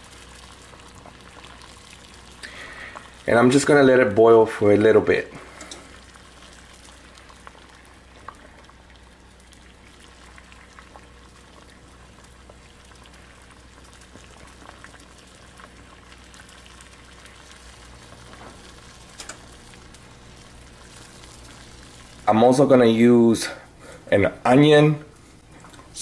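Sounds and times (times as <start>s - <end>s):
water boiling and bubbling: 0.0s - 26.0s.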